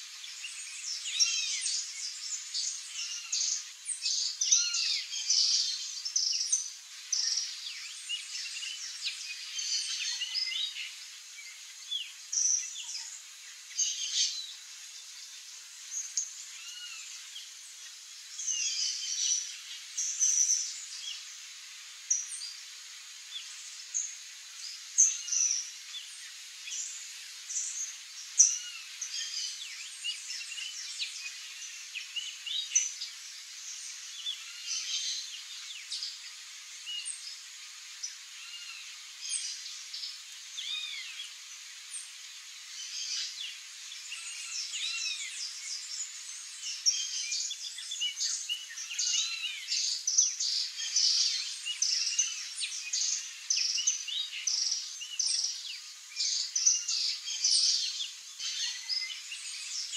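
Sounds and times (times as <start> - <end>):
faint steady high hiss: 0.0 - 59.9
songbirds chirping: 0.0 - 59.9.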